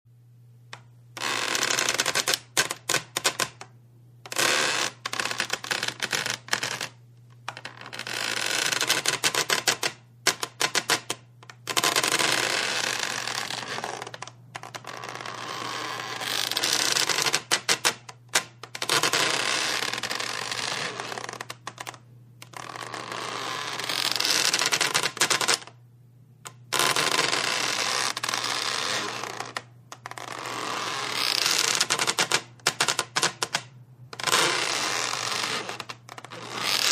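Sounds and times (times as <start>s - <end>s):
low steady hum: 0.1s - 17.4s, 18.0s - 31.2s
wood creaking: 1.2s - 3.7s, 4.3s - 25.7s, 26.5s - 36.9s.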